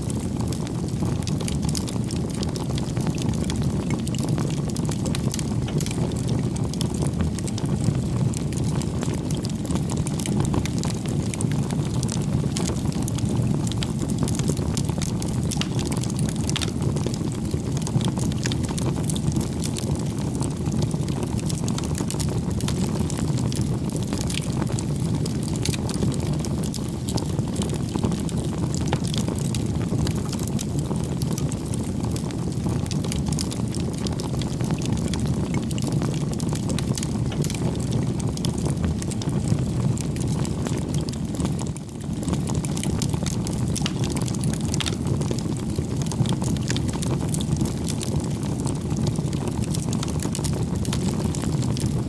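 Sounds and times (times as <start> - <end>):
burning wood crackling and popping: 0.0 - 52.0
campfire flames rushing: 0.0 - 52.0.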